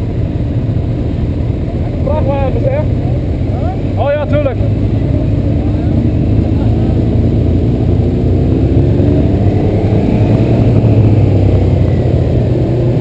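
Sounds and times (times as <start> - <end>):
high whine: 0.0 - 13.0
motorcycle engine rumble: 0.0 - 13.0.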